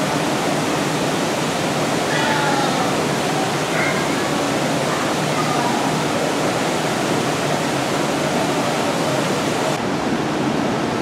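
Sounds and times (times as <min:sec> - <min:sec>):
rushing background noise: 0:00.0 - 0:11.0.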